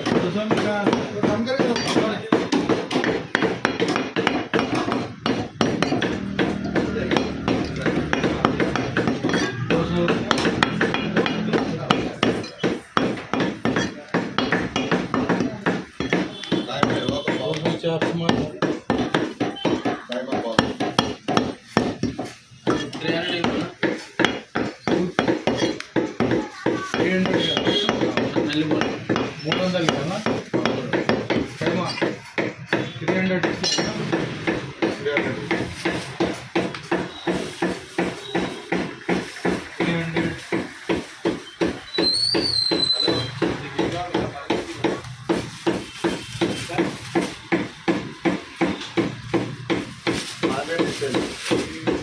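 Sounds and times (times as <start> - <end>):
cleaver chopping meat: 0.0 - 52.0.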